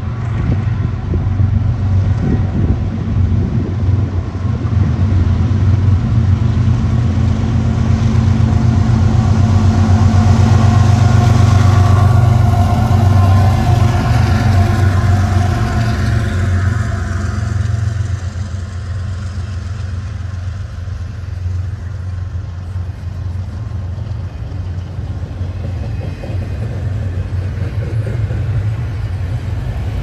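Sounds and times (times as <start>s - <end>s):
freight train locomotive drone: 0.0s - 30.0s.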